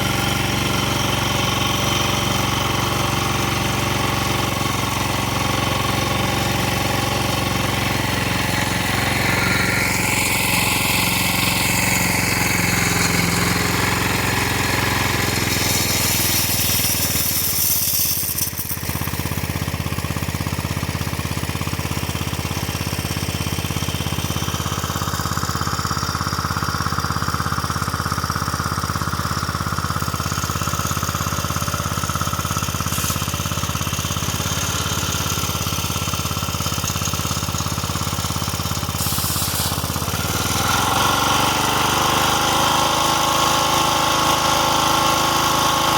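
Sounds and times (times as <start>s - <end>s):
pump engine running: 0.0s - 45.9s.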